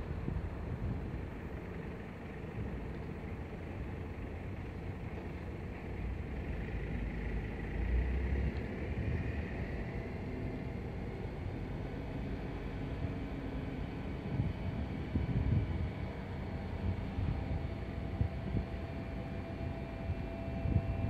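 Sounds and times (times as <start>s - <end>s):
wind buffeting microphone: 0.0s - 6.3s, 8.4s - 21.0s
low rumble with faint hum: 0.0s - 21.0s.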